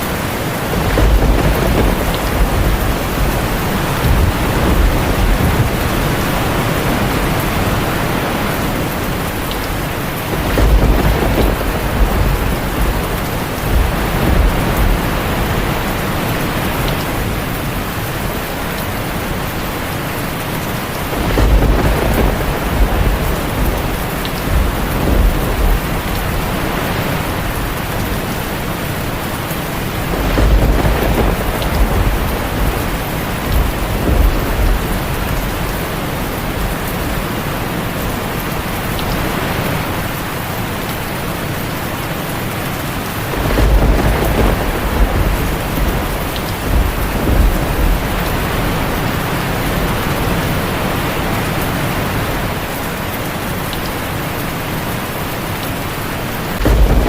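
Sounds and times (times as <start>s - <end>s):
thunder rumbling: 0.0s - 41.6s, 43.0s - 53.8s, 56.2s - 57.0s
heavy rain on a tin roof: 0.0s - 57.0s.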